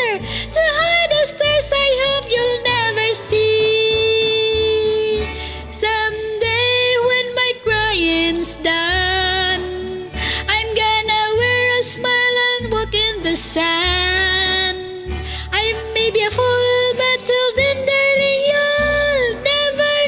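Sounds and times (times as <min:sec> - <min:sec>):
karaoke backing track with bass: 0:00.0 - 0:20.0
woman singing: 0:00.0 - 0:20.0.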